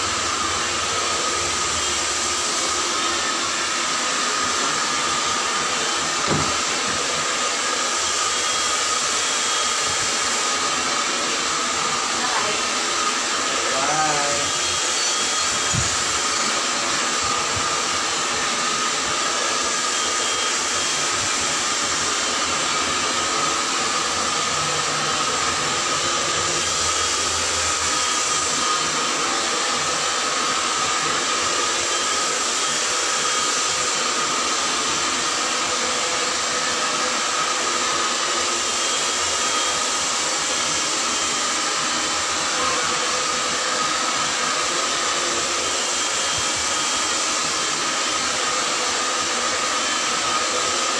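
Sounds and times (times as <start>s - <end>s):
hair dryer blowing: 0.0s - 50.9s.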